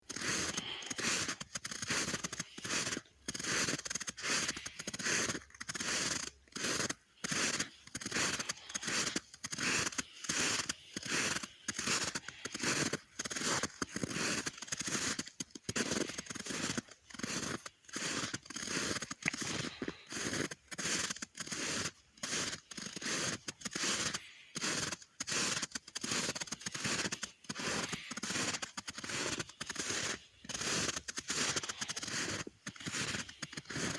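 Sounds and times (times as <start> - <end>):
footsteps crunching through snow: 0.0 - 33.9.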